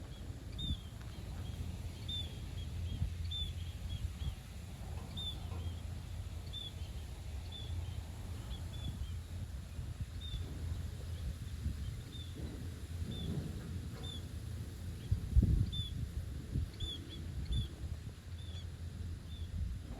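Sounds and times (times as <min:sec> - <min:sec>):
small birds chirping: 0:00.0 - 0:19.6
steady low rumble: 0:00.0 - 0:19.9.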